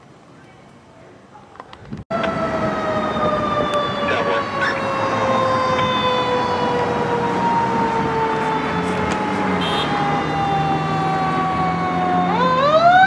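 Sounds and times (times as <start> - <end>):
traffic rumble: 0.0 - 13.0
fire truck siren winding down: 2.1 - 13.0.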